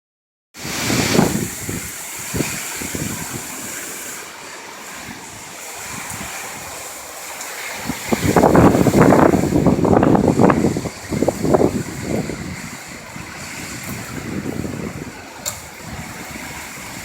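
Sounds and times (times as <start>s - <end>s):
wind buffeting the microphone: 0.6s - 4.3s, 4.9s - 7.0s, 7.6s - 17.0s.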